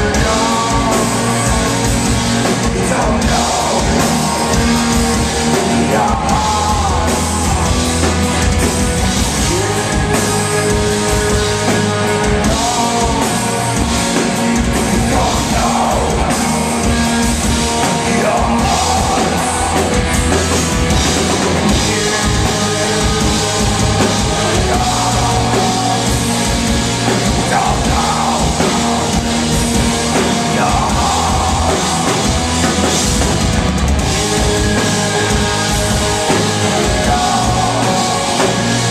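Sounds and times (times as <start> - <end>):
person singing: 0.0 - 8.5, 9.2 - 33.1, 34.0 - 38.9
drum kit: 0.0 - 38.9
electric guitar: 0.0 - 38.9.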